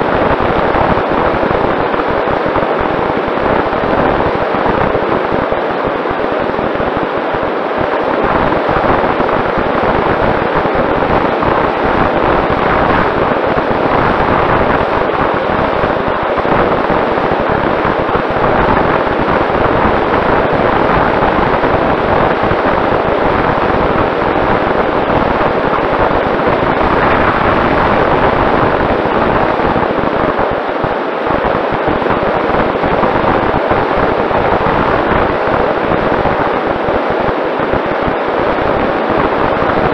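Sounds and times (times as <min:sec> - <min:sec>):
faint steady whine: 0:00.0 - 0:39.9
wind rushing over plane: 0:00.0 - 0:39.9.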